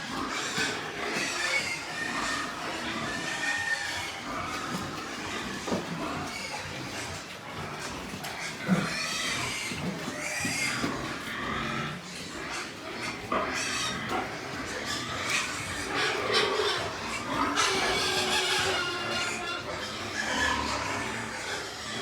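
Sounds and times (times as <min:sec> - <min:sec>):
pigs squealing and grunting: 0:00.0 - 0:22.0.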